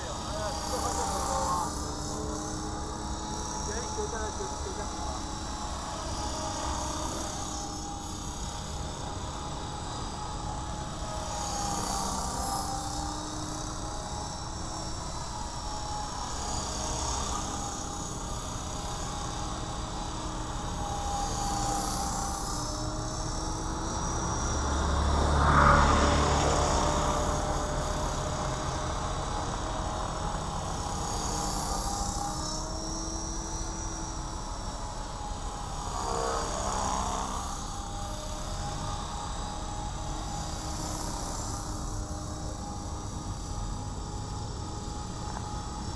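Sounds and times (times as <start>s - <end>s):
rc helicopter whine: 0.0s - 45.9s.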